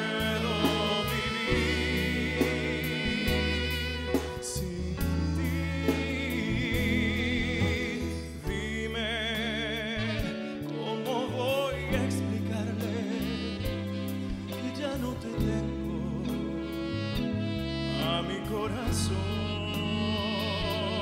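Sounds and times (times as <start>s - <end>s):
live band accompaniment: 0.0s - 21.0s
man singing a ballad: 0.0s - 21.0s.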